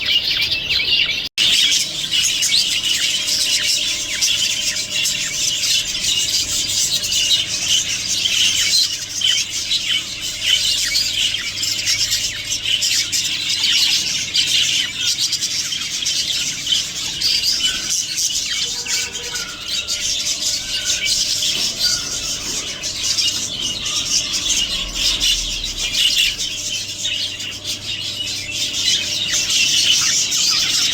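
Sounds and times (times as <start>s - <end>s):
budgerigars chattering: 0.0s - 30.9s.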